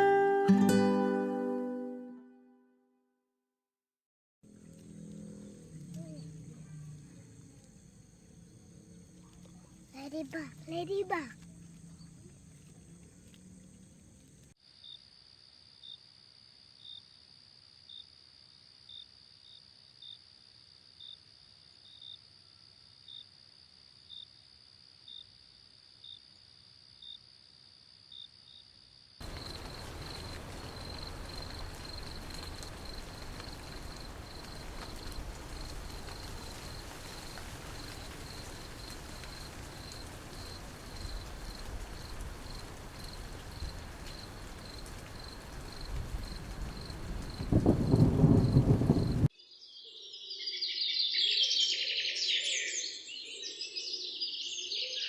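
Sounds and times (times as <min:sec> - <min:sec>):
insects chirping: 0:04.5 - 0:55.0.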